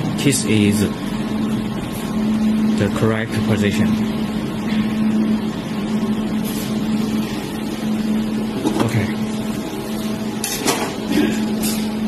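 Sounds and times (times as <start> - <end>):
welding machine humming: 0.0 - 12.0.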